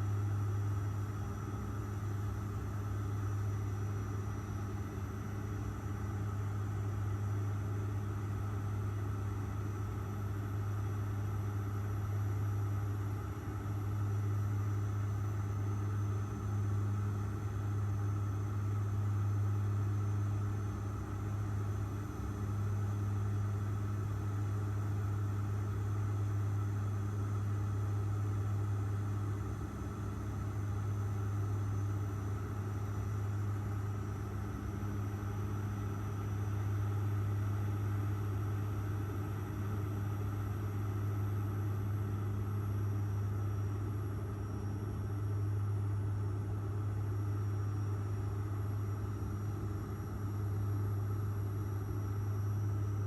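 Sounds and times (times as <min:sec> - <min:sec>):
airliner engine drone in cabin: 0:00.0 - 0:53.0.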